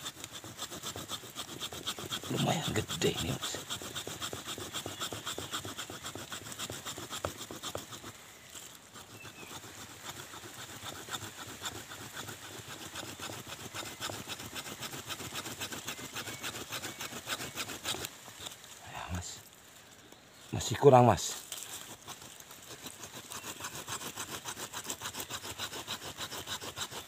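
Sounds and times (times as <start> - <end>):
hand saw cutting wood: 0.0 - 18.6, 21.4 - 27.0.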